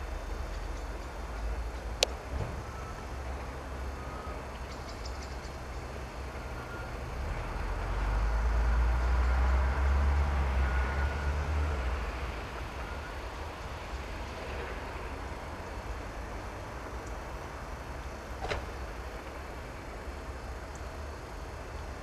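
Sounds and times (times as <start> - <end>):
diesel locomotive engine rumble: 0.0 - 22.0.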